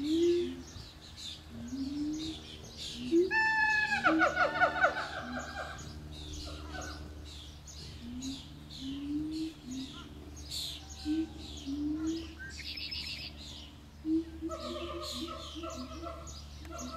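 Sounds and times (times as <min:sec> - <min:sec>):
songbirds chirping: 0:00.0 - 0:16.9
low rising animal calls: 0:01.5 - 0:16.9.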